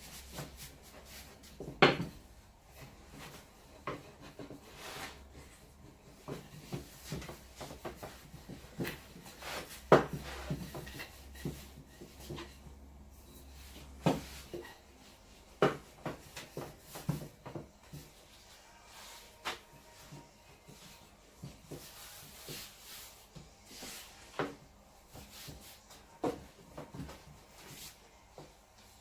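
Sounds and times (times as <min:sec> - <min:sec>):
dough kneaded on wooden board: 0:00.0 - 0:29.0.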